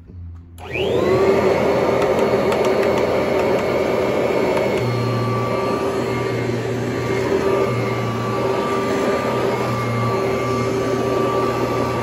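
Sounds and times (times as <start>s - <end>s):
vacuum cleaner running: 0.6s - 12.0s.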